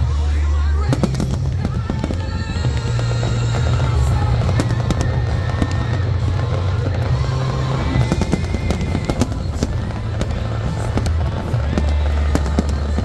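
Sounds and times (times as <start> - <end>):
fireworks cracking and crackling: 0.0 - 13.0
low rumble: 0.0 - 13.0.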